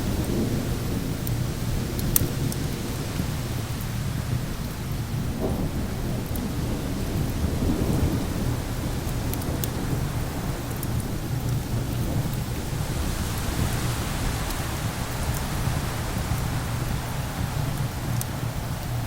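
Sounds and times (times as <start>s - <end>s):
thunder rumble: 0.0s - 19.0s
wind: 0.0s - 19.0s
wood fire pops and crackles: 0.0s - 19.0s.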